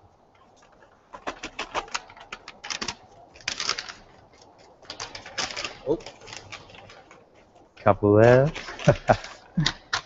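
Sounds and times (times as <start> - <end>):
paper rustling and crackling: 0.3 - 10.0.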